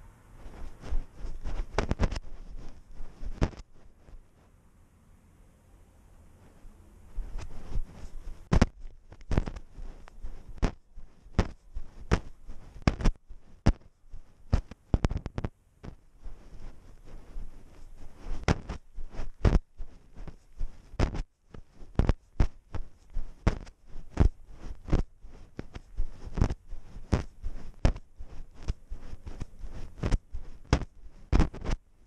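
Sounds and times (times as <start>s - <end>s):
camera knocking and rustling: 0.6s - 4.2s, 7.2s - 16.0s, 16.6s - 31.8s.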